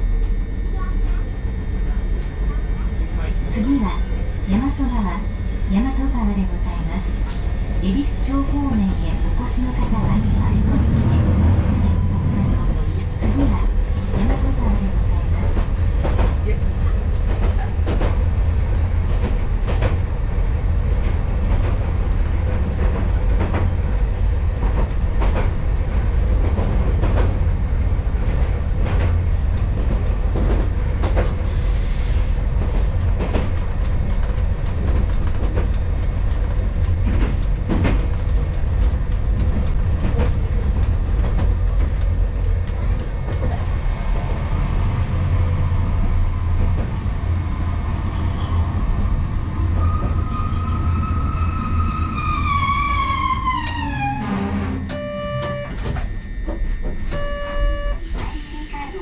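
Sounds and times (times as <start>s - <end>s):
streetcar rumble: 0.0s - 59.0s.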